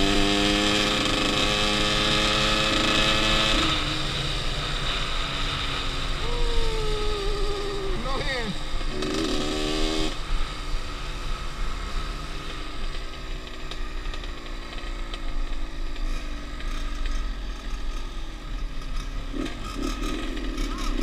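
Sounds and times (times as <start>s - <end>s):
two-stroke dirt bike engine: 0.0s - 21.0s.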